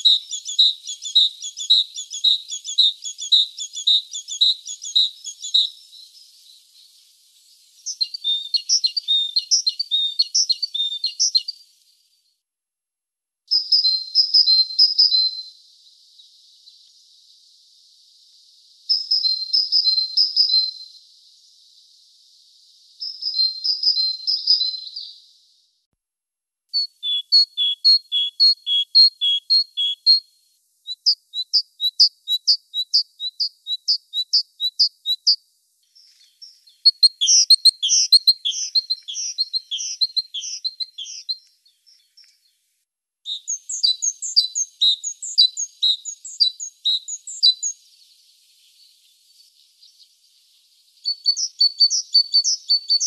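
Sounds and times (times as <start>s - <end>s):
great tit singing: 0.0s - 11.7s, 13.5s - 17.3s, 18.4s - 25.6s, 26.8s - 35.4s, 36.0s - 42.6s, 43.3s - 53.0s.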